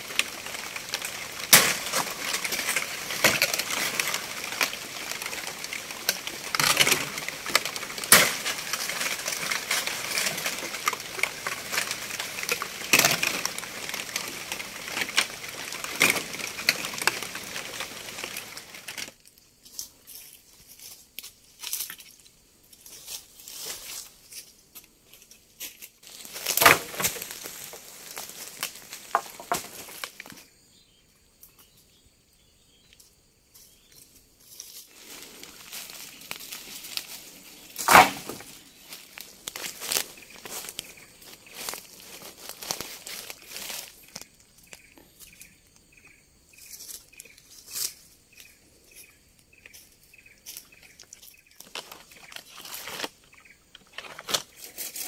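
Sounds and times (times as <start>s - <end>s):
leaves rustling and crackling: 0.0s - 30.8s, 32.7s - 55.0s.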